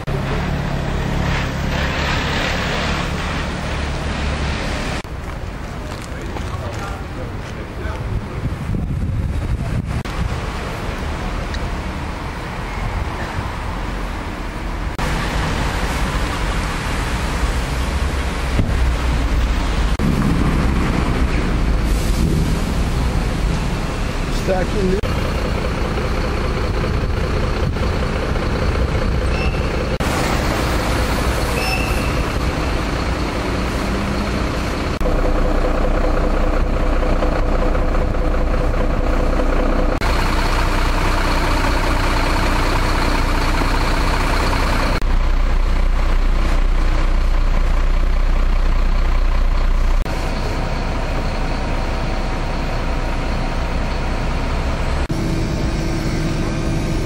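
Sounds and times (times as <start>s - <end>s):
diesel truck engine: 0.0s - 57.0s
trams on the track: 0.0s - 57.0s.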